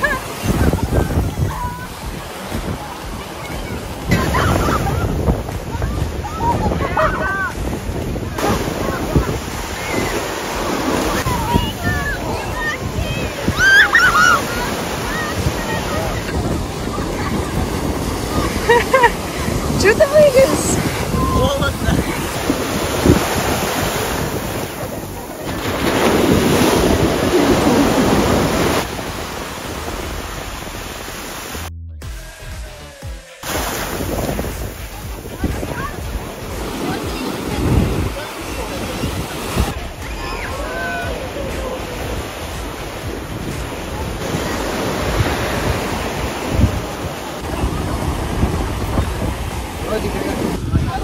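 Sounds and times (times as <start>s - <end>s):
sea waves washing ashore: 0.0s - 31.7s, 32.4s - 51.0s
wind buffeting microphone: 0.0s - 31.7s, 33.5s - 51.0s.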